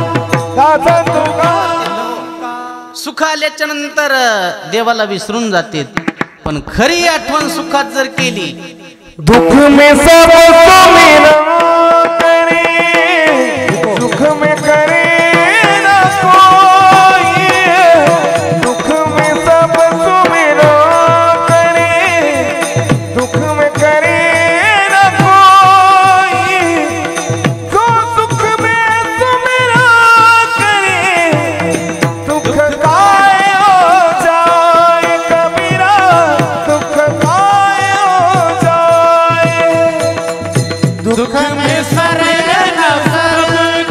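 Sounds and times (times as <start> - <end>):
drum strokes: 5.6 - 43.9.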